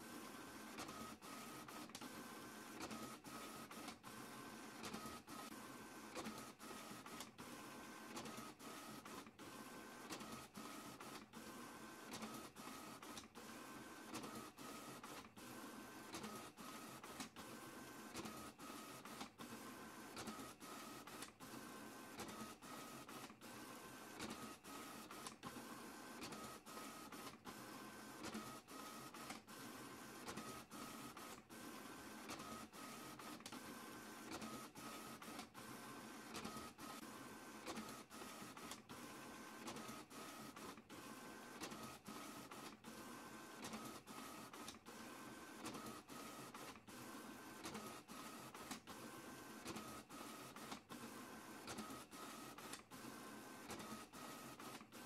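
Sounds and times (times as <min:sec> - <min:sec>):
printer mechanism whirring: 0:00.0 - 0:55.0.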